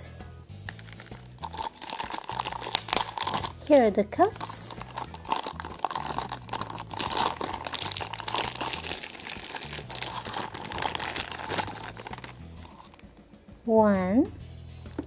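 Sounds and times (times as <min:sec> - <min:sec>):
packaging crinkling: 0:00.7 - 0:13.2.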